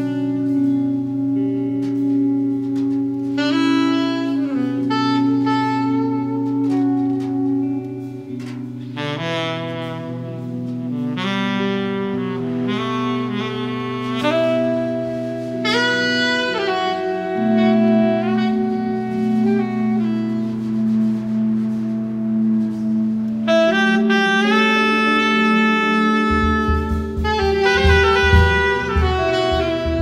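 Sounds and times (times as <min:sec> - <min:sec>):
jazz band low notes: 0:00.0 - 0:30.0
saxophones playing long notes: 0:00.0 - 0:30.0.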